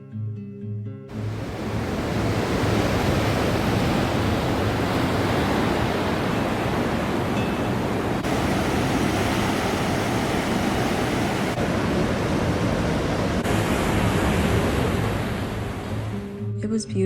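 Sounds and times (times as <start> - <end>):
ocean surf breaking on rocks: 1.1 - 16.3.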